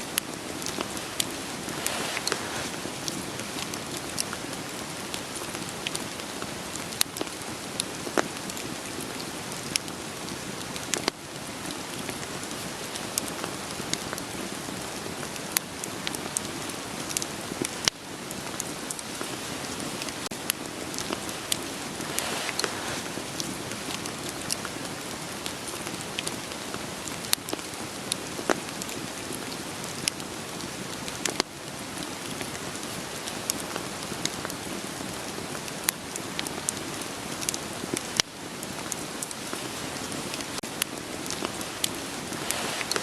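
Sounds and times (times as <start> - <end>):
rain pattering: 0.0 - 43.0
wood fire crackling: 0.0 - 43.0.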